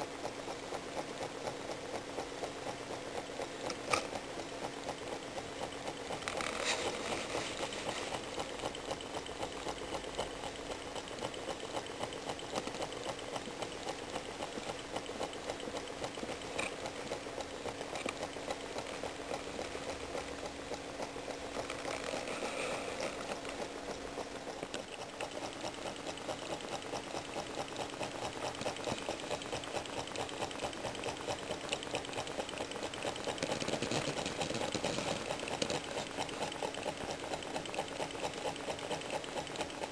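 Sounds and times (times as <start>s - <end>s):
small engine ticking: 0.0s - 39.9s.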